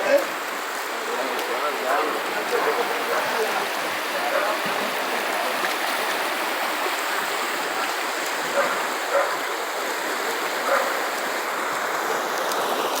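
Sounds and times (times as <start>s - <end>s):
river floodwater rushing: 0.0s - 13.0s.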